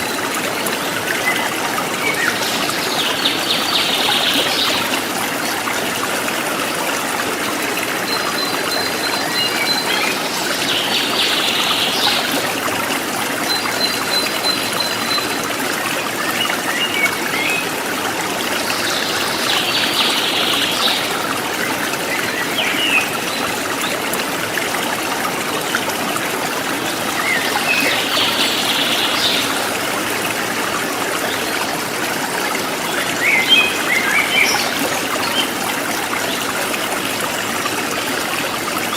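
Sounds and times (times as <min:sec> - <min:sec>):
river water flowing over stones: 0:00.0 - 0:38.9.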